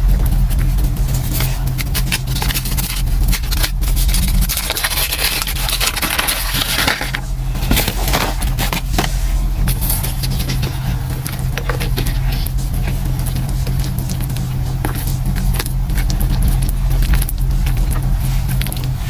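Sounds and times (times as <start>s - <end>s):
chalk block scraping: 0.0s - 19.0s
chalk crunching in wet paste: 0.0s - 19.0s
low steady hum: 0.0s - 19.0s.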